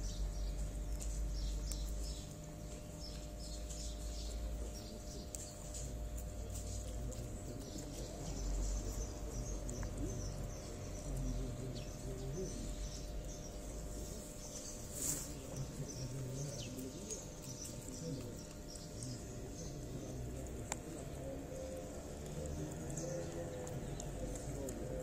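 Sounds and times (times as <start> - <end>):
cats chewing food: 0.0 - 25.0
small birds chirping: 0.0 - 25.0.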